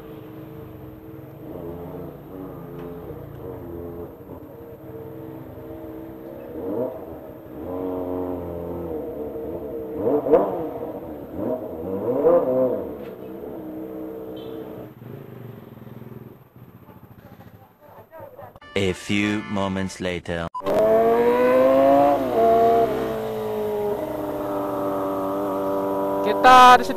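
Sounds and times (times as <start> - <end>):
motorcycle engine revving: 0.0 - 17.8, 20.6 - 26.9.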